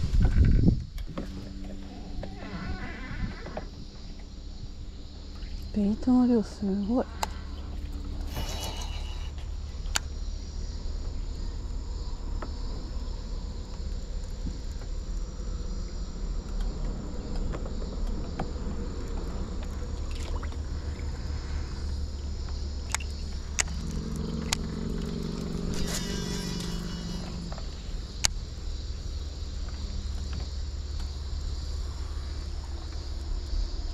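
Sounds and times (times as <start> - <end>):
insects chirring: 0.0 - 33.9
low rumble: 0.0 - 33.9.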